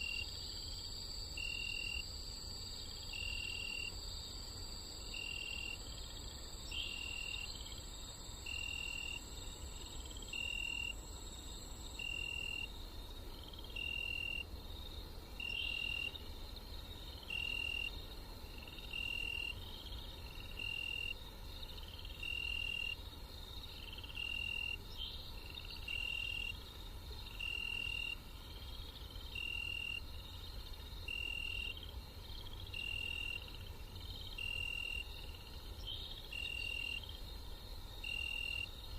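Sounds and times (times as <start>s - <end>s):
crickets chirping: 0.0s - 38.9s
high insect drone: 0.0s - 38.9s.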